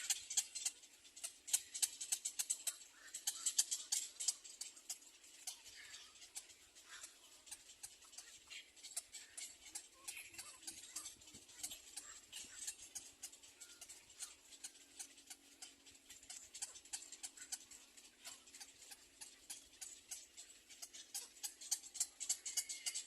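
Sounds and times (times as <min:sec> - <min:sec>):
rapid irregular clicking: 0:00.0 - 0:23.0.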